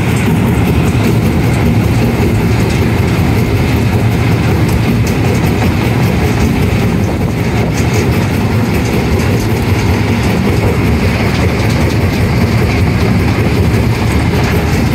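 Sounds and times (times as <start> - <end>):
conveyors rumbling and clattering: 0.0 - 14.9
vibrating screens: 0.0 - 14.9.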